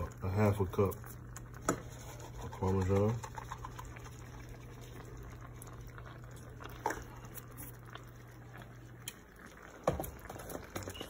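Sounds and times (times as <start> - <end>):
low steady hum: 0.0 - 11.0
risotto simmering in a pan: 0.0 - 11.0.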